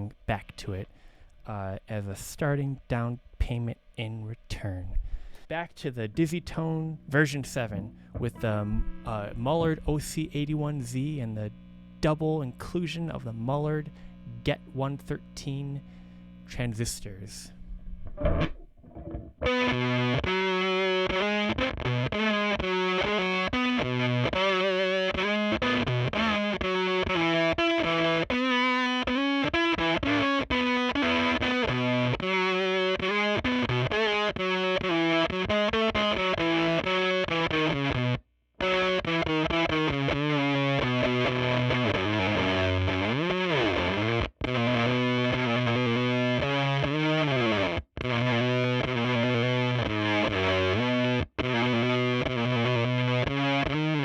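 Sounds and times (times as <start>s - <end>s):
fuzzy distorted electric guitar: 0.0s - 54.0s.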